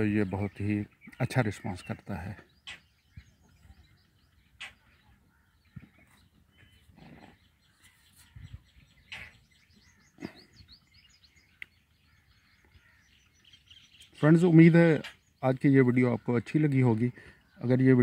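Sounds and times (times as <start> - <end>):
faint high bird chirps: 0.4 - 16.5.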